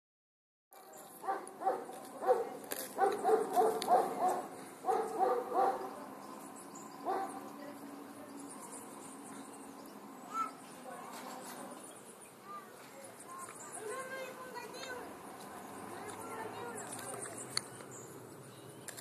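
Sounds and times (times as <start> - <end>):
faint outdoor background noise: 0.7 - 19.0.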